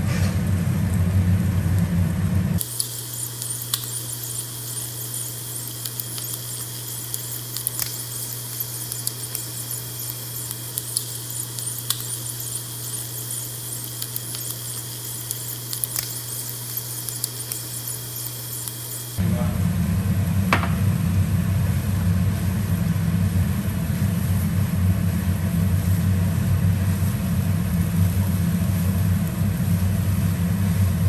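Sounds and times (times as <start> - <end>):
food sizzling in hot oil: 0.6 - 19.2, 20.4 - 31.0.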